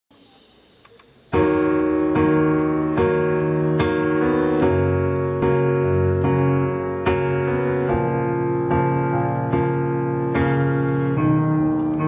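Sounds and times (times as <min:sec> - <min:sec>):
piano chords: 0:01.3 - 0:12.0.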